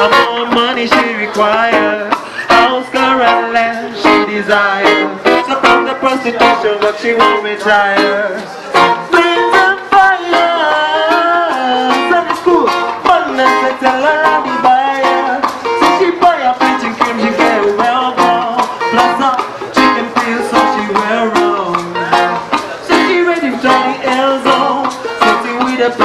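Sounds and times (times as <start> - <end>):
acoustic guitar strumming: 0.0 - 26.0
person singing into a microphone: 0.0 - 26.0.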